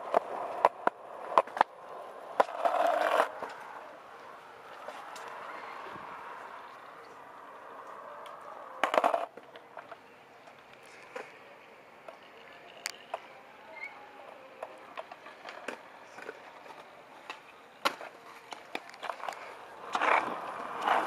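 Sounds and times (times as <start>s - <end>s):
skateboards clacking on concrete: 0.0s - 11.4s, 12.0s - 21.0s.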